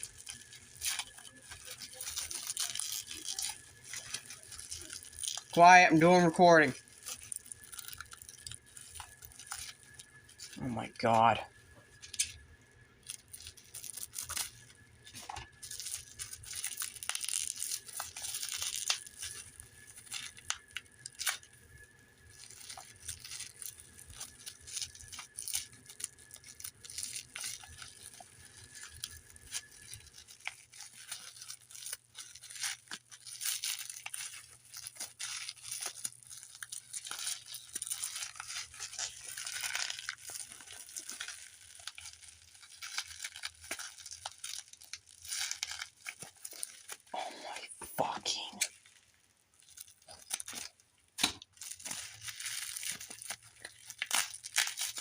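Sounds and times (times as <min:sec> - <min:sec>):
packaging tearing and crinkling: 0:00.0 - 0:11.3, 0:12.0 - 0:55.0.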